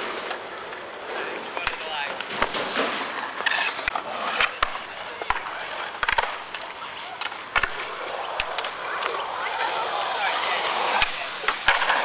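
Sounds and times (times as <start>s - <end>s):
skateboard clacking on ground: 0.0s - 12.0s
skateboard rolling on concrete: 0.0s - 12.0s.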